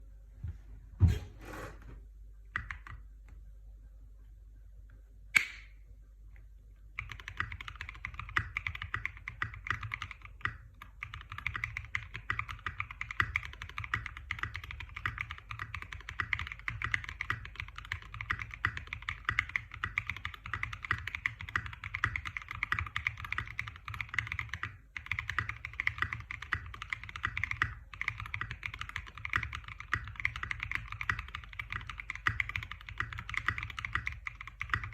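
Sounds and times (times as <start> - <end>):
mechanical keyboard typing: 2.6 - 3.0, 7.0 - 34.9.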